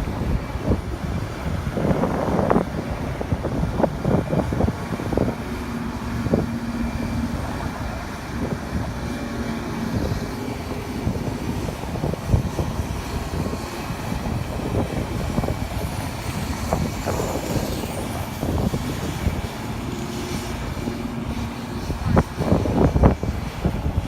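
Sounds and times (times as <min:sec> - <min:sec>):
heavy vehicle engines rumbling: 0:00.0 - 0:24.0
steady hum: 0:00.0 - 0:24.0
wind buffeting microphone: 0:00.0 - 0:24.0.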